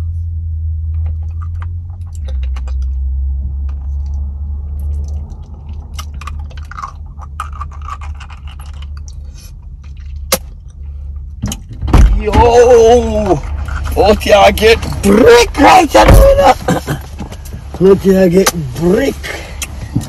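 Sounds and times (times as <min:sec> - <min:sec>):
car interior rumble: 0:00.0 - 0:20.0.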